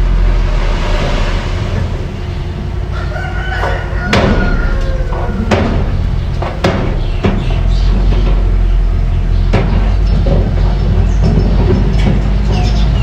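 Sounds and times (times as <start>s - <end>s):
bulldozer engine rumble: 0.0s - 13.0s
sharp metallic clanks: 2.2s - 13.0s.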